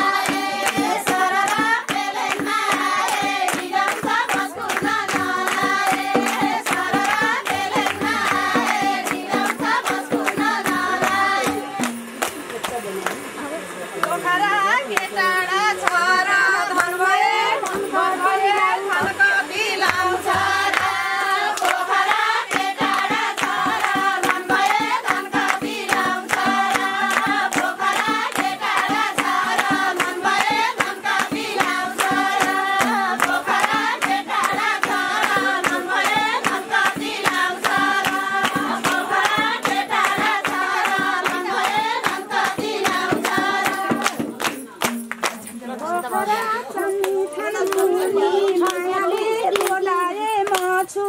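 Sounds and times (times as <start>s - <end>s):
women singing together: 0.0s - 12.2s, 14.2s - 51.0s
hand drum beat: 0.0s - 13.4s, 15.8s - 51.0s
hand clapping: 0.0s - 14.3s, 14.9s - 15.2s, 15.8s - 51.0s.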